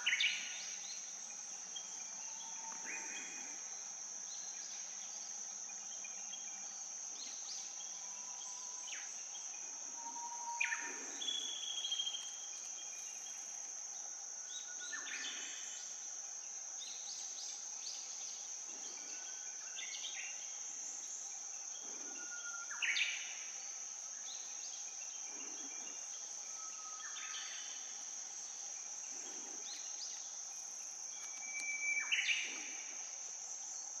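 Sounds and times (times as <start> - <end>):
insect trill: 0.0 - 34.0.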